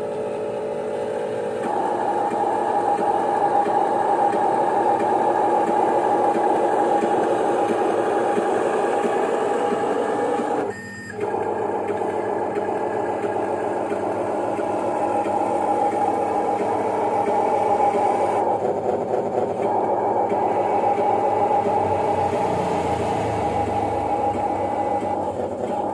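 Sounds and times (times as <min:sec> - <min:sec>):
electric motors whining: 0:00.0 - 0:25.9.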